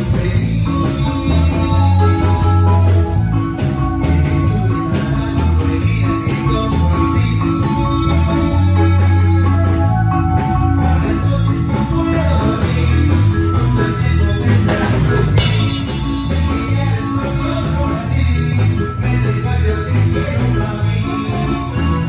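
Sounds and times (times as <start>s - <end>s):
live latin dance band: 0.0s - 22.0s
steady bass line: 0.0s - 22.0s.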